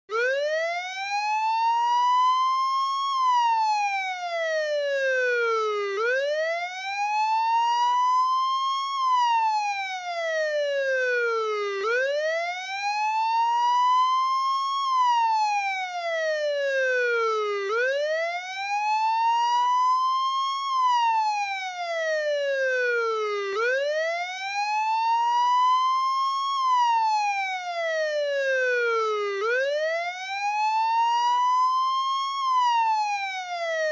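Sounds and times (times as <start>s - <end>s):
police siren wailing: 0.1s - 33.9s.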